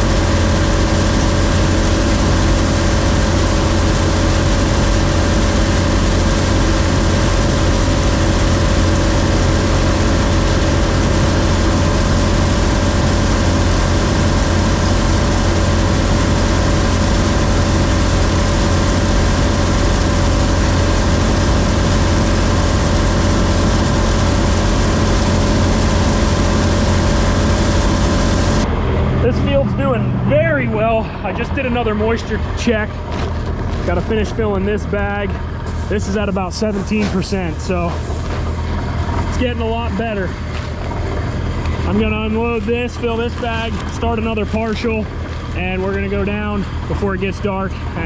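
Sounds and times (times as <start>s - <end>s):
combine harvester engine drone: 0.0s - 48.0s
machinery tones: 0.0s - 48.0s.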